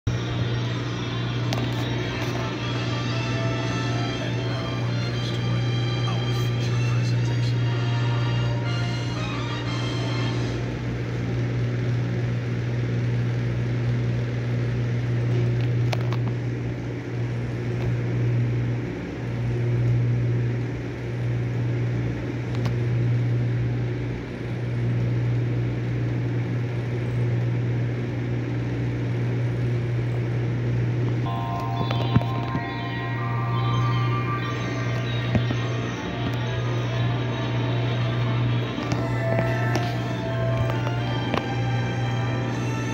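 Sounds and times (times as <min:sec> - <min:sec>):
steady low hum: 0:00.1 - 0:42.9.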